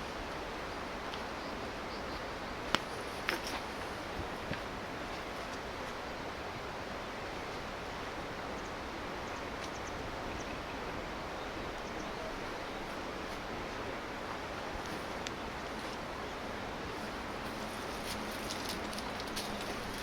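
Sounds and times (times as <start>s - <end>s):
river rushing over stones: 0.0s - 20.0s.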